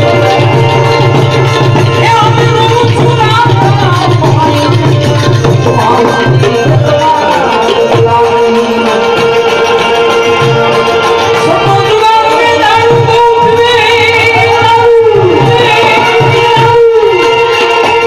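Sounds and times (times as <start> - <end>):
hand drum beat: 0.0 - 17.2
harmonium: 0.0 - 18.0
man singing into a microphone: 2.0 - 18.0.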